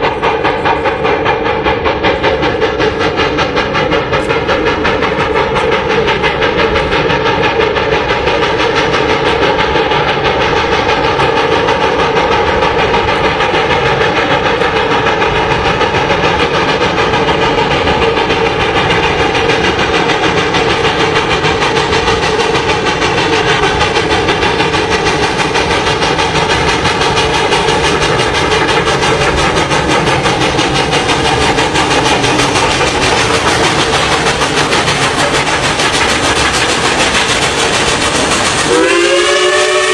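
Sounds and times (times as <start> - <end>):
train running: 0.0 - 39.9.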